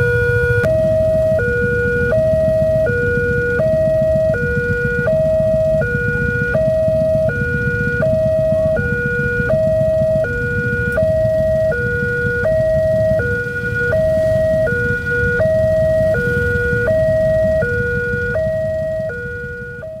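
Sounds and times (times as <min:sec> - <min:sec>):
level crossing two-tone alarm: 0:00.0 - 0:20.0.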